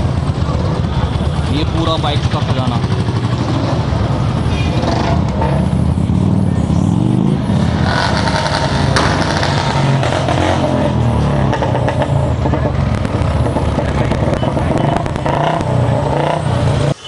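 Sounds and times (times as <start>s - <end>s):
motorcycle engines rumbling: 0.0s - 17.0s
street traffic: 0.0s - 17.0s.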